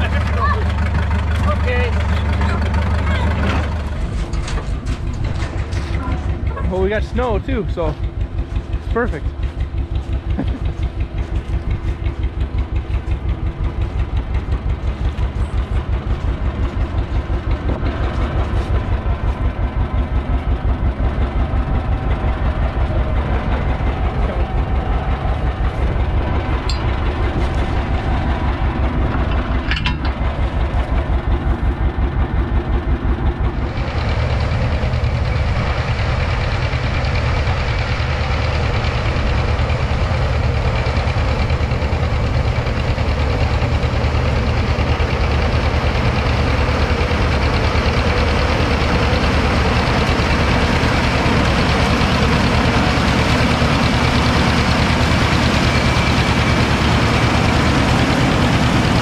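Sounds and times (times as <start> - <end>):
tractor engine putt-putt: 0.0 - 59.0.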